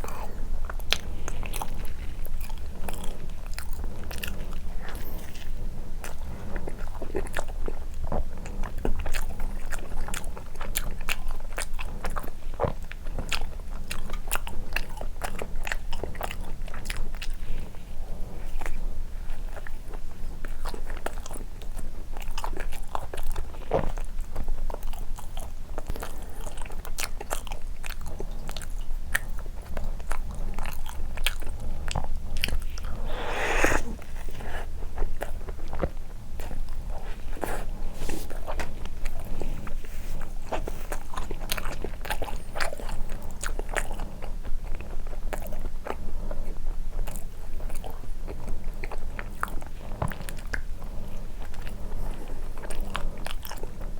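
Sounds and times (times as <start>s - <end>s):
steady low hum: 0.0s - 22.5s, 25.9s - 53.9s
chewing and wet mouth sounds: 0.0s - 53.9s.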